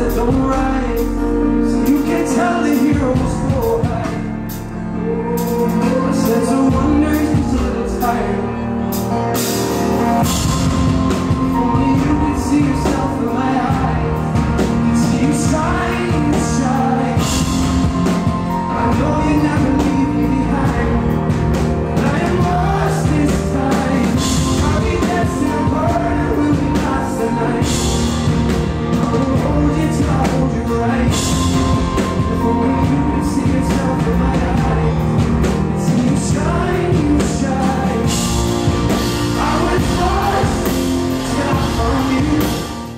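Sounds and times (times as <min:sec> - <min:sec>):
man singing: 0:00.0 - 0:09.2, 0:10.1 - 0:42.9
backing band with drums: 0:00.0 - 0:42.9.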